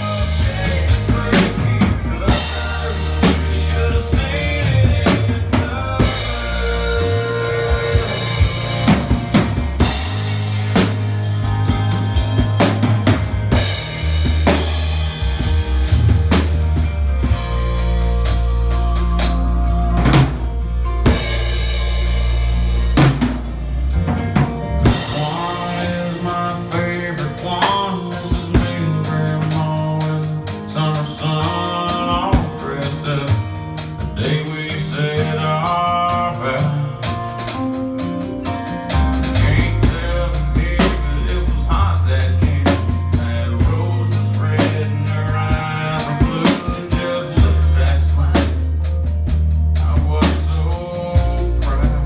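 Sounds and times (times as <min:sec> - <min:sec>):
bass line: 0:00.0 - 0:52.0
country music: 0:00.0 - 0:52.0
drum kit playing: 0:00.0 - 0:52.0.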